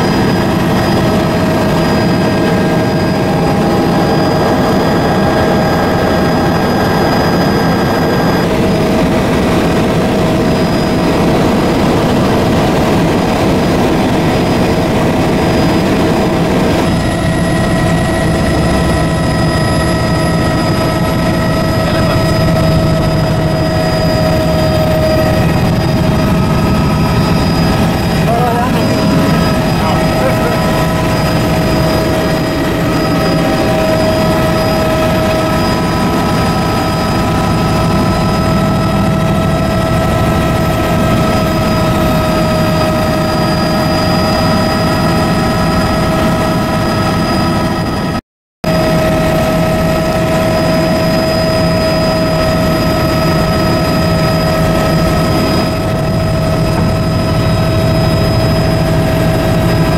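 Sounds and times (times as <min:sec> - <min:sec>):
helicopter engine and rotor drone: 0:00.0 - 0:59.9
high whine: 0:00.0 - 0:59.9.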